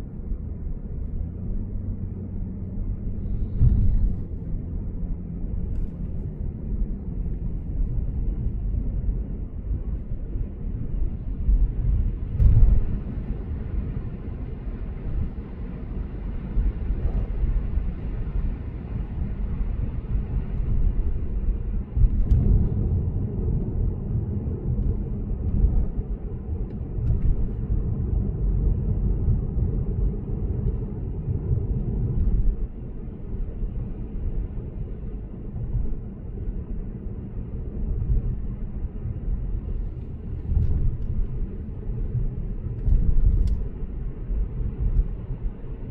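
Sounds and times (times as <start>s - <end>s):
road and tyre rumble: 0.0s - 45.9s.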